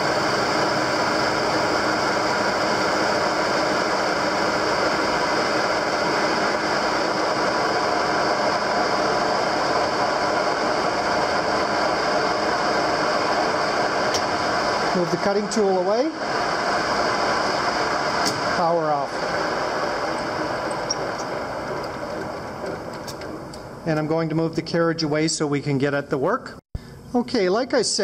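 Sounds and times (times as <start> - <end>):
metal lathe cutting: 0.0 - 23.7.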